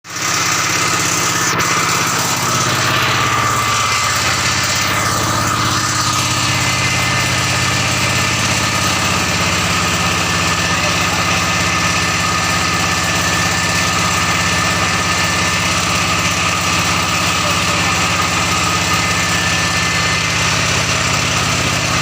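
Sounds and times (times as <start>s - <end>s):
drilling rig engine running: 0.0s - 22.0s.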